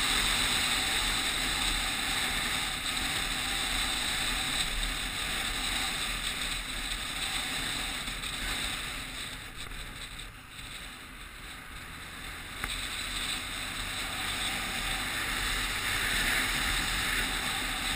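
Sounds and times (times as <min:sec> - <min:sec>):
passing car traffic: 0:00.0 - 0:17.9.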